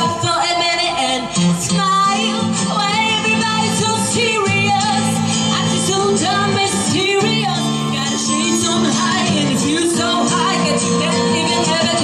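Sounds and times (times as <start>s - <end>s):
woman singing into microphone: 0.0s - 12.0s.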